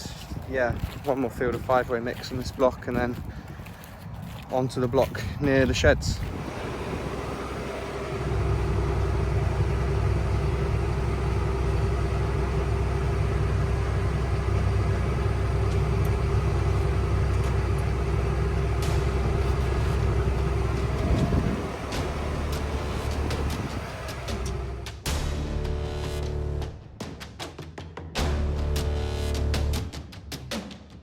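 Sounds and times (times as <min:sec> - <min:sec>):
farm machinery engine running: 0:00.0 - 0:26.7.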